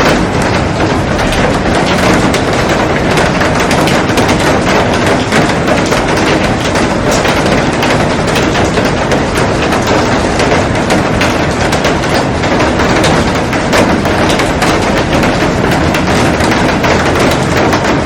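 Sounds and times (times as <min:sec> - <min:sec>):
heavy rain on a glass roof: 0:00.0 - 0:18.0.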